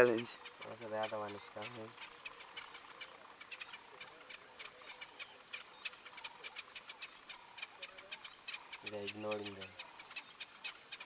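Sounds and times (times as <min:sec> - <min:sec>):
birds calling high-pitched: 0:00.0 - 0:11.0.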